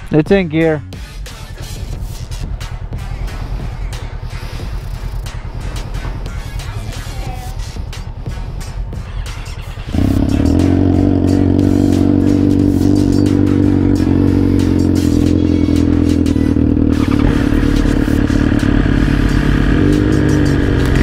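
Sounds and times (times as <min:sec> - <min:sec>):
motorcycle engine running: 0:00.1 - 0:21.0.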